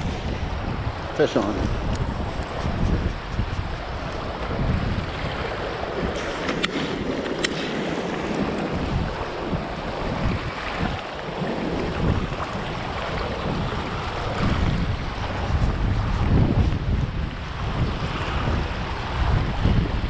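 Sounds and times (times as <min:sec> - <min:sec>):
choppy river water rushing: 0:00.0 - 0:20.0
wind buffeting microphone: 0:00.0 - 0:20.0.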